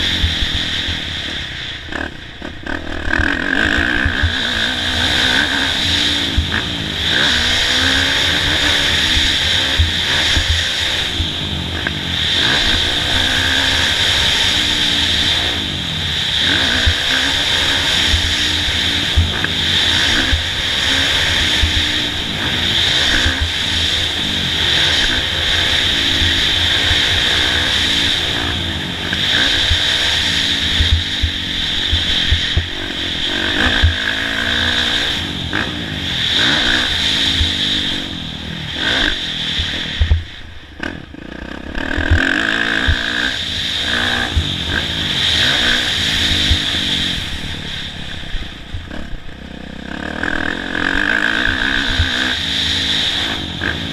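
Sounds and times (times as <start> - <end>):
motocross bike engine revving: 0.0 - 53.9
steady rush of noise: 0.0 - 53.9.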